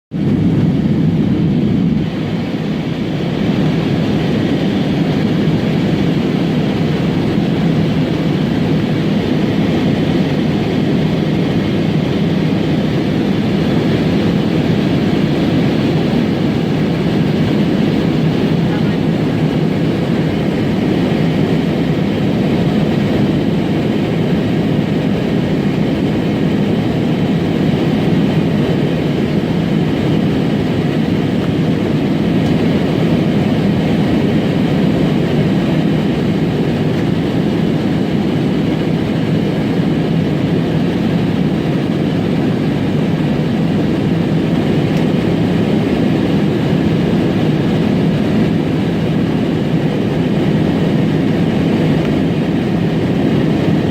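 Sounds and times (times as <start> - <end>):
airliner cabin engine rumble: 0.1 - 53.9.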